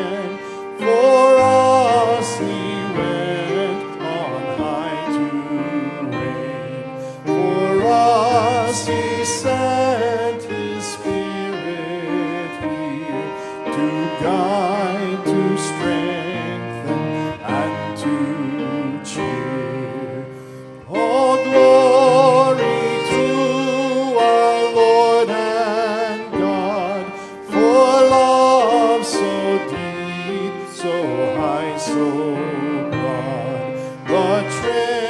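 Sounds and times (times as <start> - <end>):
church music with strong vibrato melody: 0.0 - 35.0.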